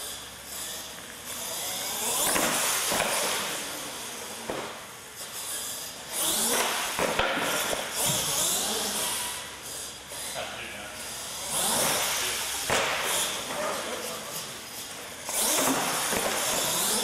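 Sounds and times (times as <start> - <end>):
toy truck motor revving: 0.0 - 17.0.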